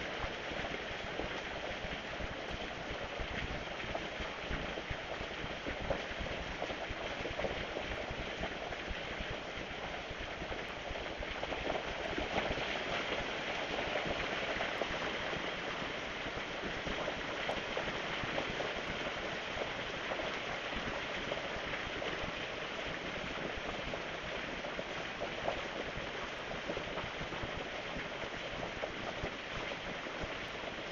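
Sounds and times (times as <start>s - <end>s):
steady rain pattering: 0.0s - 30.9s.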